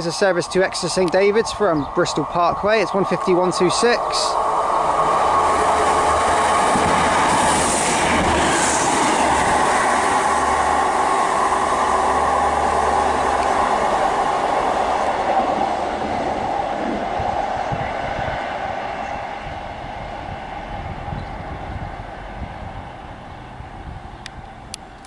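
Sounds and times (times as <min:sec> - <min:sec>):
diesel train engines: 0:00.0 - 0:25.0
train wheels on rails: 0:00.0 - 0:25.0.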